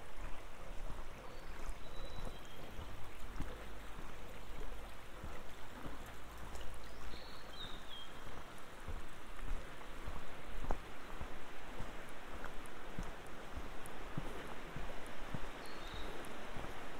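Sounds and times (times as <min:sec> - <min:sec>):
river running over stones: 0:00.0 - 0:16.9
footsteps on concrete: 0:00.1 - 0:16.8.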